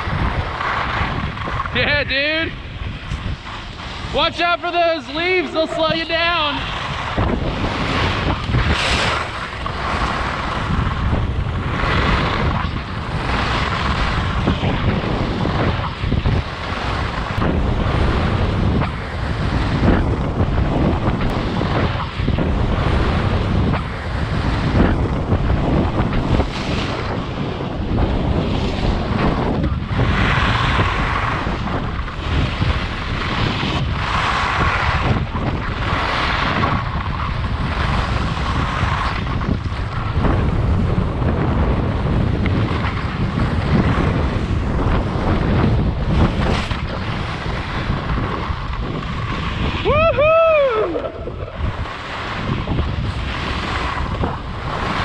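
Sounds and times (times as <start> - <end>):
skis scraping on snow: 0.0 - 49.9, 50.8 - 55.0
wind buffeting microphone: 0.0 - 55.0.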